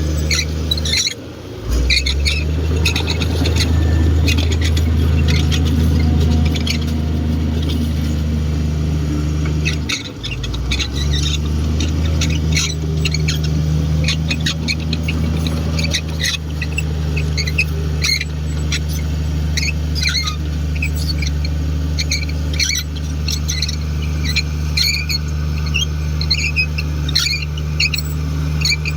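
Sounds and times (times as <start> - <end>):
bulldozer diesel engine running: 0.0 - 28.9
high squeaks and squeals: 0.0 - 28.9.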